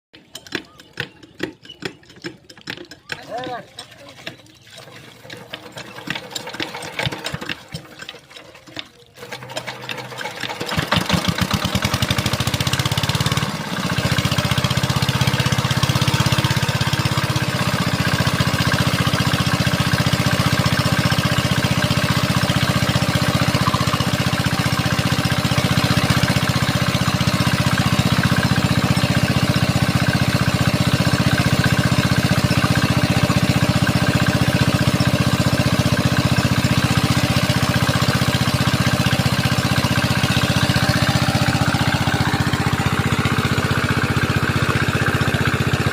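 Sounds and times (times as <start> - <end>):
diesel pump engine starting and running: 4.2 - 45.9.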